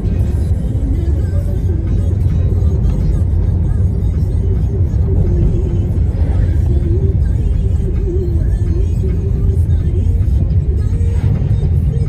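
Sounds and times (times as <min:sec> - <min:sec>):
car road rumble from inside: 0:00.0 - 0:12.0.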